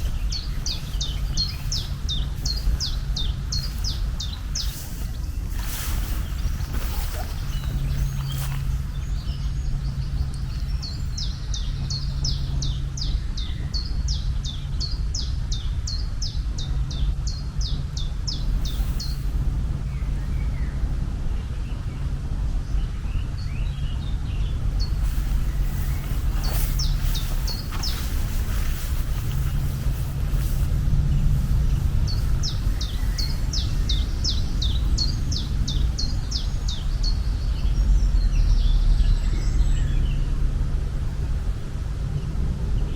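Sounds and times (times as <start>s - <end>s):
bird chirping: 0.0s - 40.4s
hum: 0.0s - 42.9s
steady low rumble: 0.0s - 42.9s.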